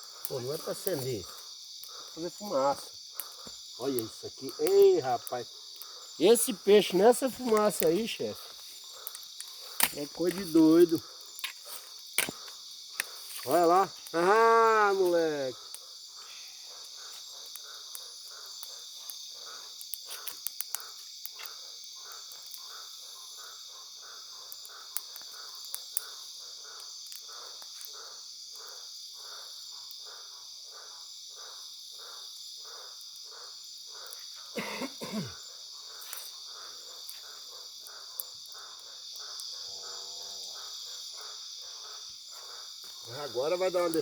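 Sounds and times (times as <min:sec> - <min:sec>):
crickets trilling: 0:00.0 - 0:44.0
pulsing insect call: 0:00.0 - 0:44.0.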